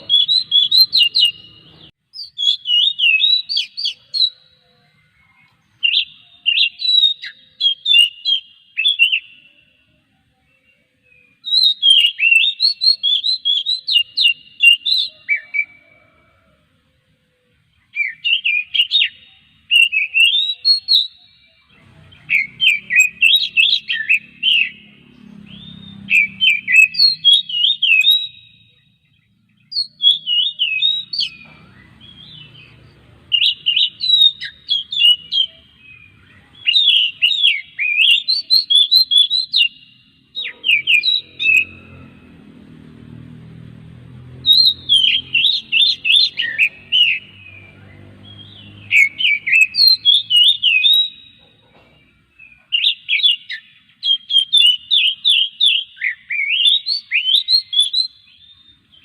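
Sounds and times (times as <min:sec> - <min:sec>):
bird singing whistled phrases: 0:00.0 - 0:09.8, 0:10.6 - 0:16.1, 0:17.9 - 0:28.9, 0:29.6 - 0:42.0, 0:44.4 - 0:51.7, 0:52.4 - 0:59.0.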